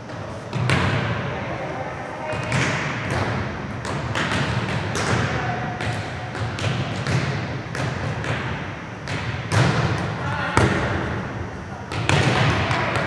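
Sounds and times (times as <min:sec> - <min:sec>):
volleyballs smacking and thudding: 0:00.1 - 0:01.2, 0:02.3 - 0:13.0.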